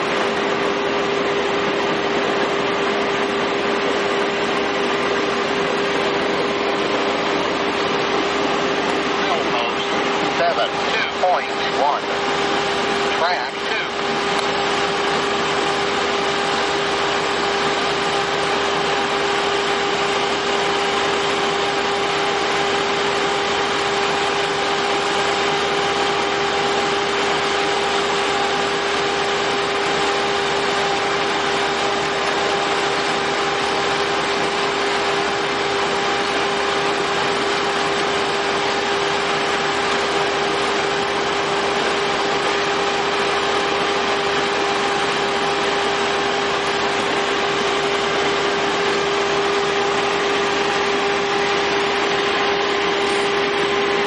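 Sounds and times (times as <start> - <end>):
machine power unit droning: 0.0 - 54.0.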